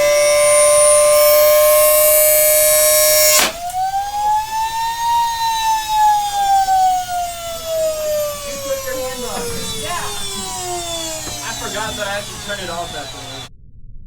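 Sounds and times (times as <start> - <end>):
vacuum cleaner motor whining: 0.0 - 13.5.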